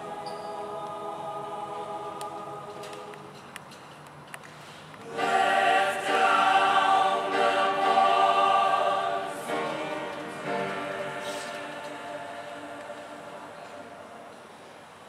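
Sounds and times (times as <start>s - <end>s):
mixed choir singing: 0.0s - 3.4s, 5.0s - 15.0s.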